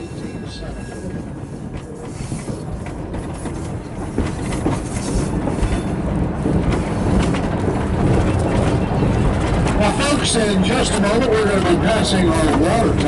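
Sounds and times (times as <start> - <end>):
train wheels rumbling on rail: 0.0 - 13.0
wheels clacking on track: 0.0 - 13.0.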